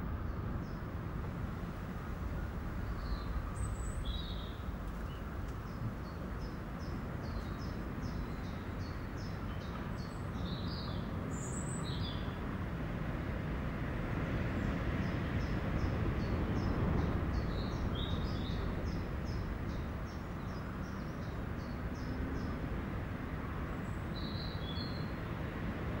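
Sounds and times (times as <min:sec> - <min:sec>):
steady low background rumble: 0:00.0 - 0:09.3, 0:12.6 - 0:24.5.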